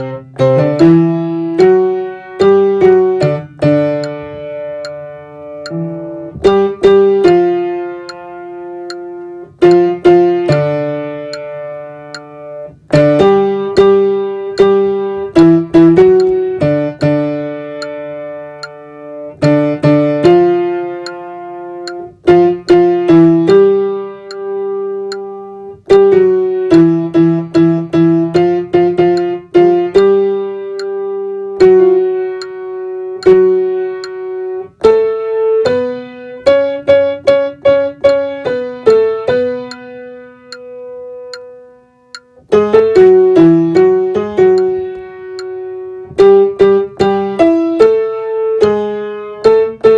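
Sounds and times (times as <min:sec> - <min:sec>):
piano playing slow chords: 0:00.0 - 0:49.9.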